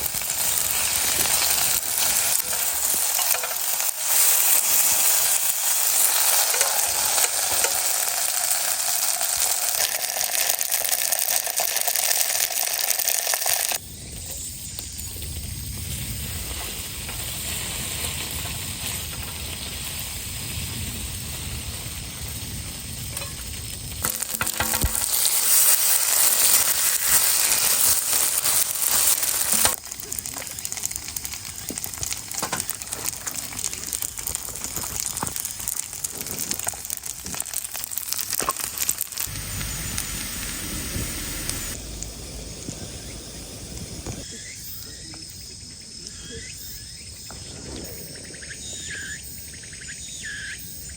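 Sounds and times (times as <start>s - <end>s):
crackling pops: 0.0s - 17.4s, 18.0s - 44.3s
food sizzling in a pan: 0.0s - 44.9s.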